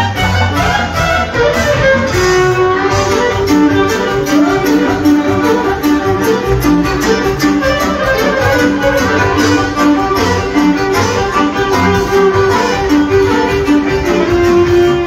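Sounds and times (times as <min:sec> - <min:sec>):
folk band playing dance tune: 0:00.0 - 0:15.0.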